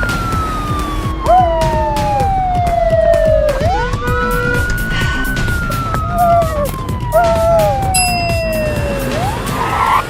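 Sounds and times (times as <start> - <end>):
wailing siren: 0.0 - 10.0.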